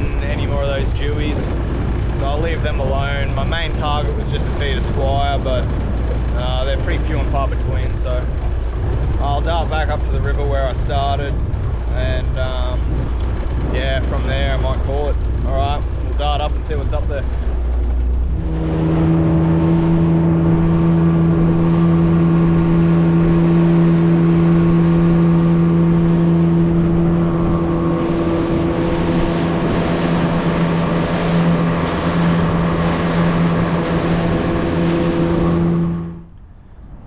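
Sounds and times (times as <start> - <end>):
outboard motor droning: 0.0 - 36.7.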